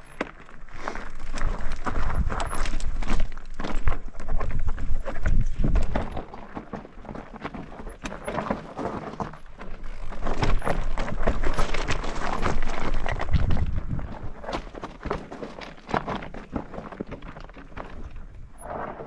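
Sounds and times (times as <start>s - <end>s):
bike clattering over rocks: 0.0s - 19.0s.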